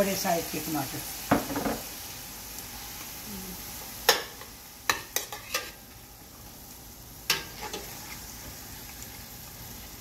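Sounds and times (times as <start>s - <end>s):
vegetables sizzling in pot: 0.0s - 10.0s.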